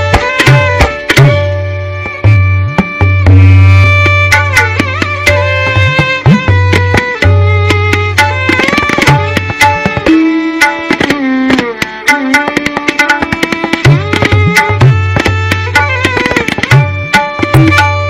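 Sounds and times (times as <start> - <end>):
tabla strokes: 0.0 - 18.0
violin with sliding notes: 0.0 - 18.0.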